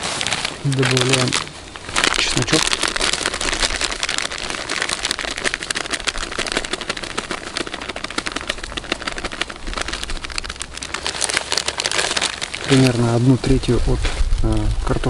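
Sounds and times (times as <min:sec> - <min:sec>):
plastic packet crinkling: 0:00.0 - 0:15.0.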